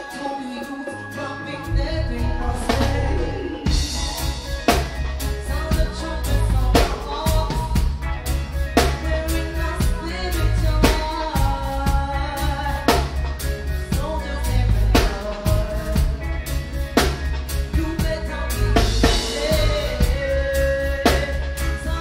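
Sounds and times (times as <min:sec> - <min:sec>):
live reggae band playing: 0:00.0 - 0:22.0
heavy bass: 0:01.5 - 0:22.0.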